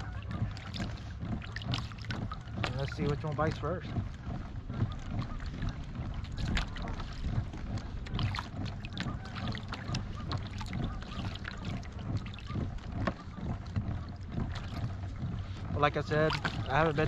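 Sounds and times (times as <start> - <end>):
boat motor humming: 0.0 - 17.0
water slapping against hull: 0.0 - 17.0.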